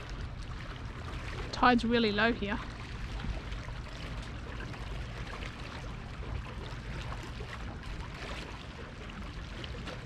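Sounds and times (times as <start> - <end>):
small splashes: 0.0 - 10.0
wind rumble on microphone: 0.0 - 10.0.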